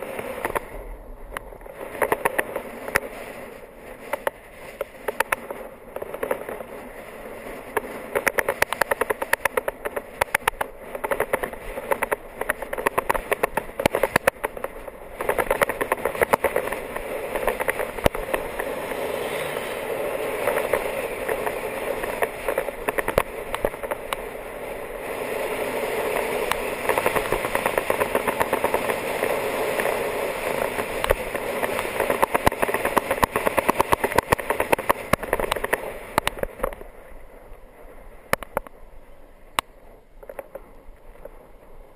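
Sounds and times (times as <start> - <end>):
clicks and rattles from road: 0.0 - 41.9
wind rushing over camera: 0.0 - 41.9.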